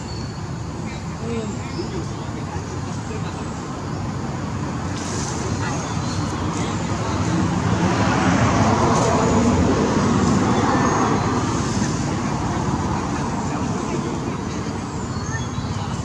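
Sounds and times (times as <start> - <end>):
outdoor rushing noise: 0.0 - 16.0.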